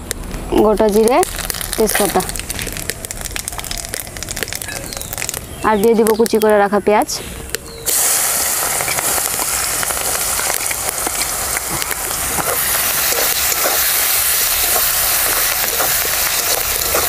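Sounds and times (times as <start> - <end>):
onions sizzling in oil: 0.7 - 6.5, 7.7 - 17.0.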